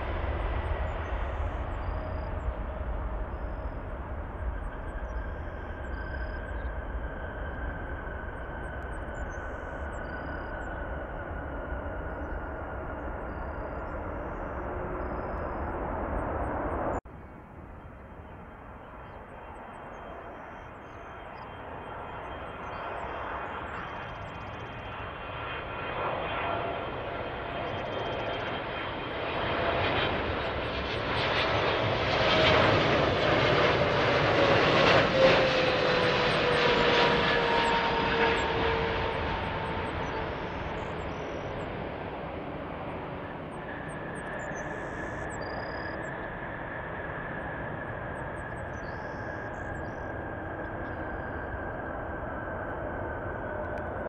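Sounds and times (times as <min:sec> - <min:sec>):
jet engine noise: 0:00.0 - 0:54.0
landing jet aircraft whine: 0:00.0 - 0:54.0.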